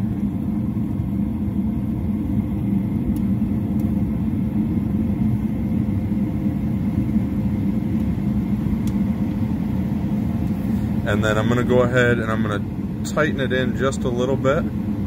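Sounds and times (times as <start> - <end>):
furnace running: 0.0 - 15.0.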